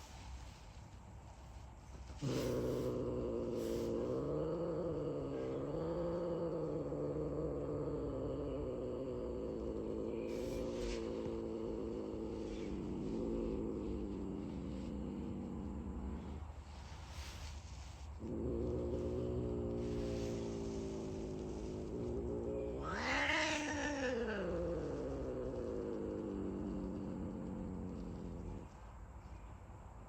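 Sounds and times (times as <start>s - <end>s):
cat growling: 2.0s - 29.4s.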